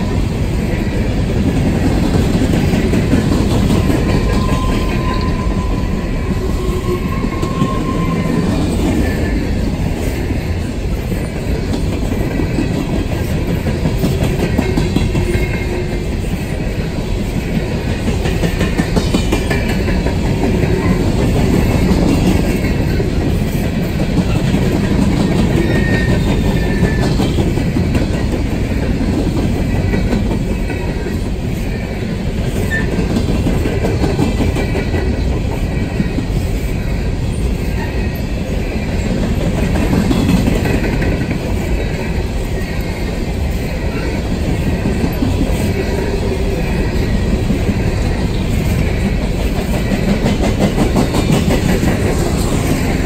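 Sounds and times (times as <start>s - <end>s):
railroad cars rolling: 0.0s - 53.0s
wheels clattering on rails: 0.0s - 53.0s.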